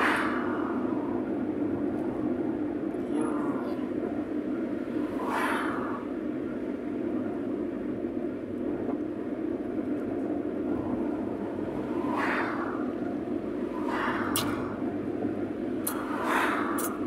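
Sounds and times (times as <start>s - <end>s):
road and engine noise inside car: 0.0s - 17.0s.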